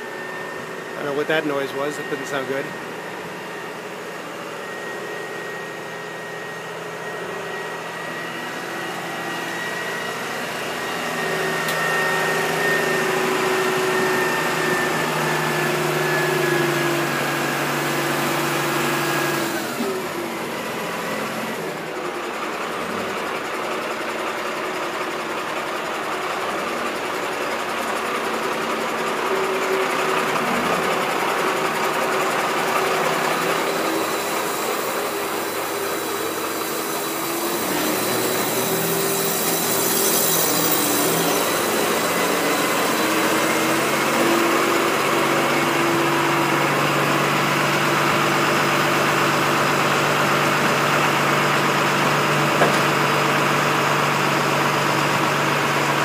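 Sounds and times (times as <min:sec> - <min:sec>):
crane engine running under load: 0:00.0 - 0:56.0.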